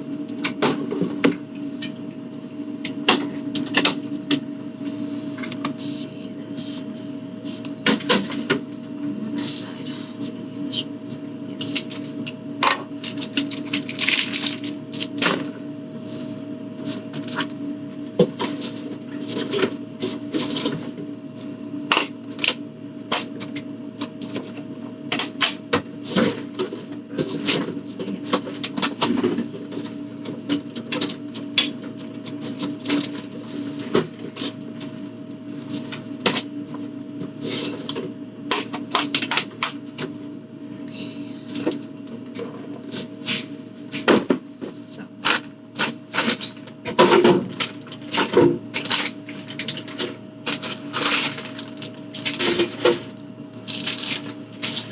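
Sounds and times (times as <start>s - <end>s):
refrigerator hum: 0.0s - 54.9s.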